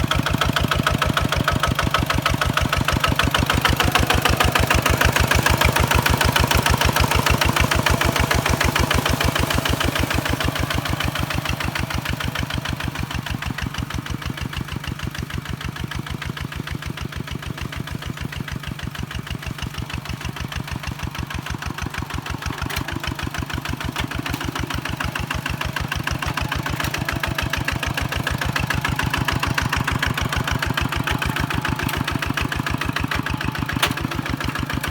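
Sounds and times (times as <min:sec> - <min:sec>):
diesel tractor engine chugging: 0:00.0 - 0:34.9.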